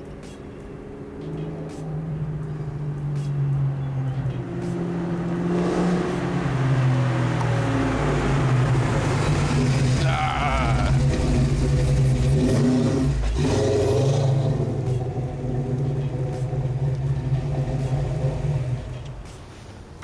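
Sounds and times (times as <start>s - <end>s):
car engine exhaust approaching: 0.0s - 20.0s.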